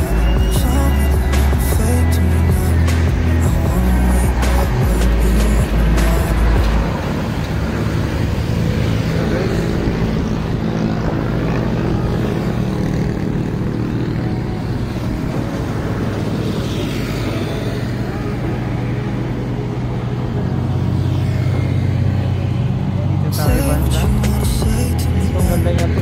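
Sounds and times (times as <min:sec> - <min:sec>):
low engine hum: 0:00.0 - 0:26.0
rumble of vehicles: 0:00.0 - 0:26.0.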